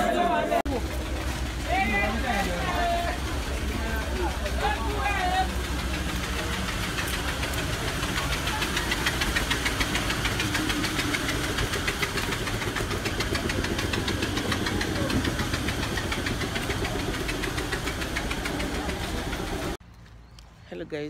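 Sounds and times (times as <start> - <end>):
small engine knocking steadily: 0.7 - 19.8.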